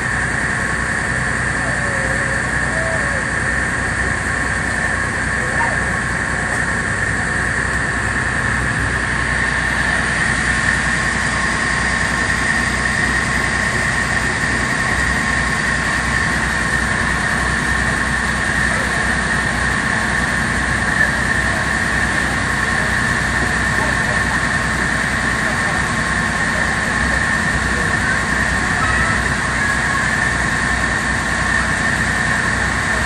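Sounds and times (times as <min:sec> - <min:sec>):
boat engine rumble: 0:00.0 - 0:33.0
high whine: 0:00.0 - 0:33.0.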